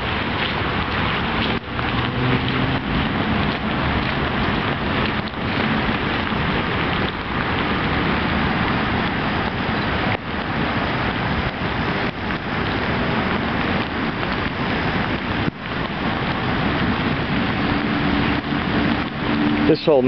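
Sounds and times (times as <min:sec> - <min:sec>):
steady rain falling: 0:00.0 - 0:20.0
wind on microphone: 0:00.0 - 0:20.0.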